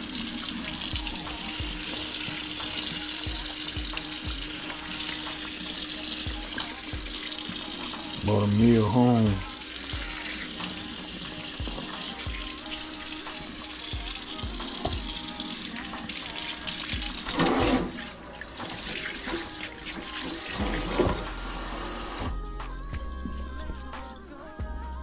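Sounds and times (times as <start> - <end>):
tap water running into sink: 0.0 - 22.3.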